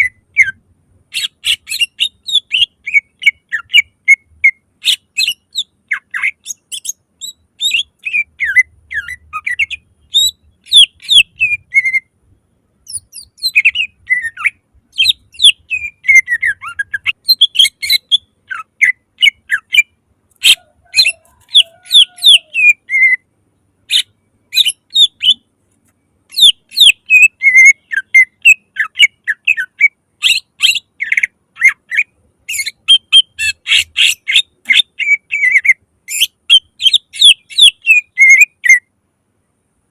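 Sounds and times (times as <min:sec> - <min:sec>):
bird singing chirps and trills: 0:00.0 - 0:12.2, 0:12.8 - 0:25.5, 0:26.3 - 0:38.9.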